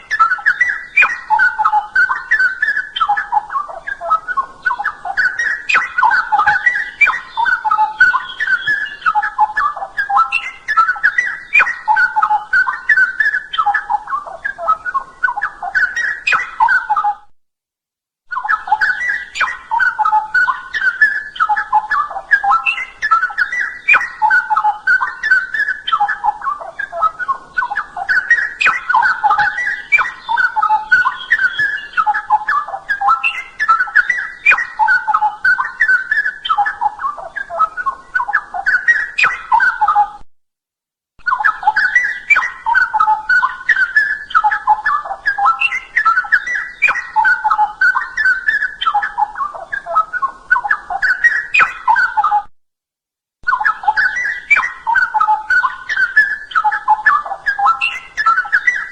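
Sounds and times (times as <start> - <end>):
bird singing bubbling whistles: 0.0 - 17.2, 18.3 - 40.2, 41.2 - 52.4, 53.4 - 58.9.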